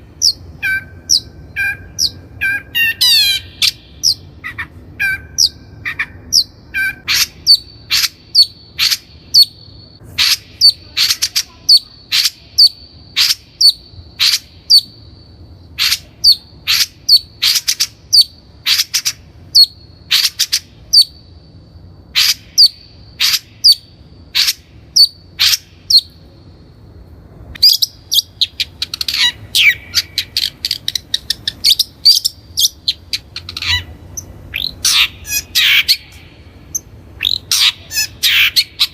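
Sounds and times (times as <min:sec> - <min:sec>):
shrike calling: 0:00.0 - 0:21.4, 0:22.1 - 0:26.4, 0:27.6 - 0:38.9.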